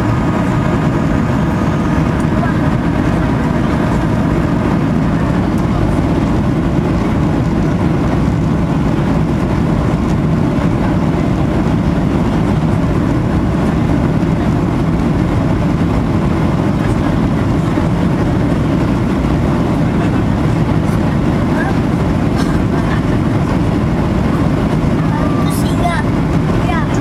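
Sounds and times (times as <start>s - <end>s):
airplane engines rumbling: 0.0s - 27.0s.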